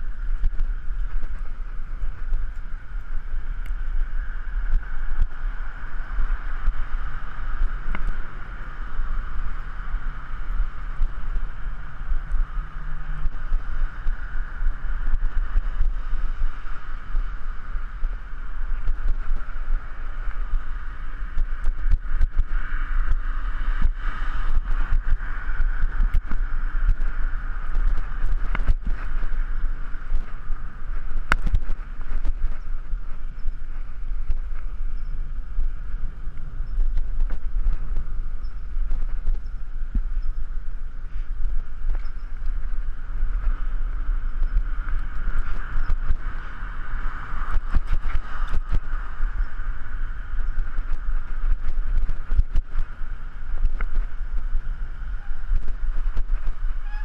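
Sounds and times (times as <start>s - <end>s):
bicycle rolling on concrete: 0.0s - 57.0s
wind rumble: 0.0s - 57.0s.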